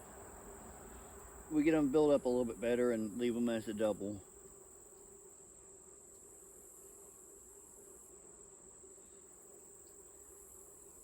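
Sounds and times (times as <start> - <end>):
honeybees humming: 0.0 - 11.0.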